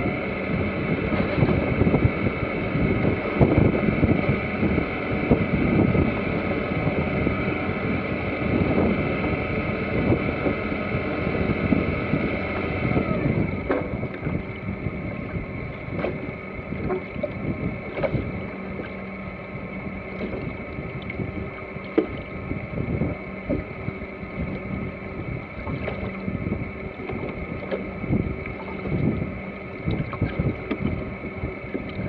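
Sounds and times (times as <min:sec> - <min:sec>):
water rushing along boat hull: 0:00.0 - 0:32.0
wind buffeting microphone: 0:00.0 - 0:32.0.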